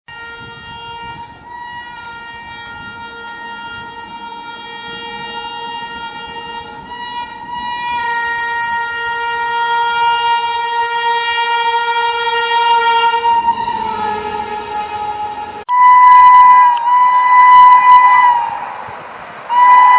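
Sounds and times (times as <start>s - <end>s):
train horn long blast: 0.1s - 18.9s, 19.5s - 19.9s.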